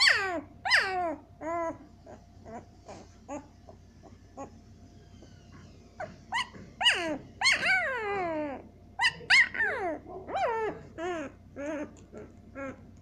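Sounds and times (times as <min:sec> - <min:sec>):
puppy whining cries: 0:00.0 - 0:13.0.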